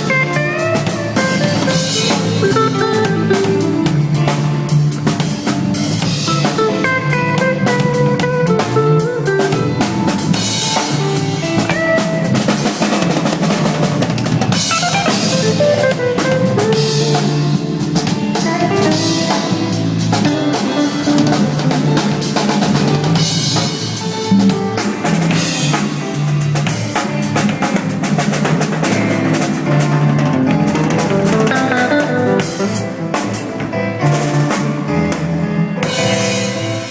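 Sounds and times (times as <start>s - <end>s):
drum kit with rimshots: 0.0s - 36.9s
guitar: 0.0s - 36.9s
live band jamming: 0.0s - 36.9s.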